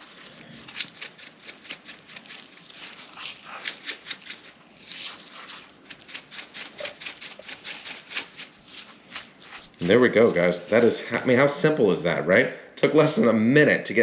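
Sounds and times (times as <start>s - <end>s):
seasoning pressed into raw meat: 0.0s - 11.7s.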